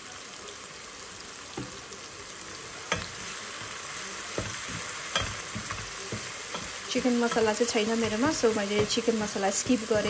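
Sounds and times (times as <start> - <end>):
sauce sizzling in hot oil: 0.0 - 10.0.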